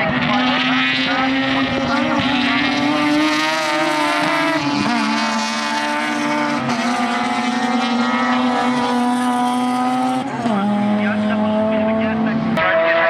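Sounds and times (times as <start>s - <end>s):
race car engines screaming: 0.0s - 13.0s.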